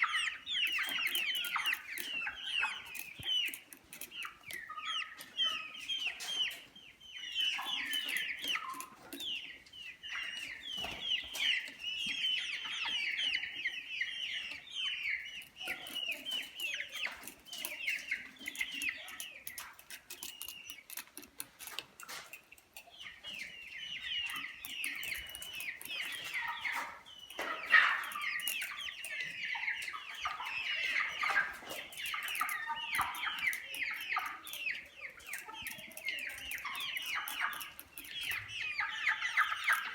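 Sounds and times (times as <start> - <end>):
chickens chirping and clucking: 0.0 - 39.9.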